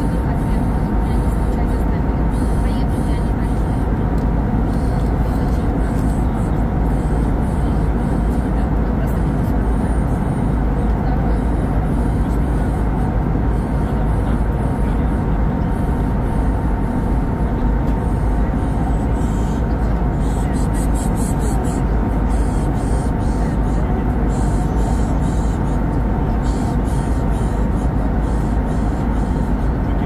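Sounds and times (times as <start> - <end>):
jet engine rumble: 0.0 - 30.0.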